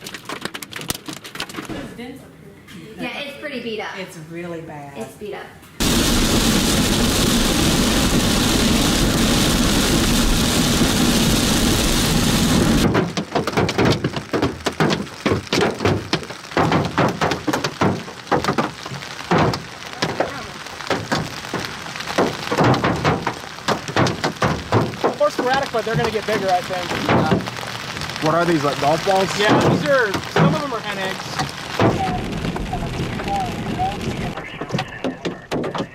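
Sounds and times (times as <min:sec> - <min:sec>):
hailstones pounding: 0:00.0 - 0:01.7, 0:05.8 - 0:35.9
hailstones striking sporadically: 0:00.0 - 0:01.7, 0:05.8 - 0:35.9.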